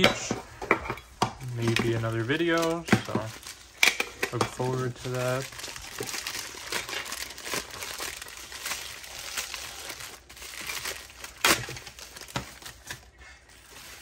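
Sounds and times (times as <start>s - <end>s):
plastic bag crinkling: 1.4s - 14.0s
sharp plastic crackle: 1.4s - 14.0s.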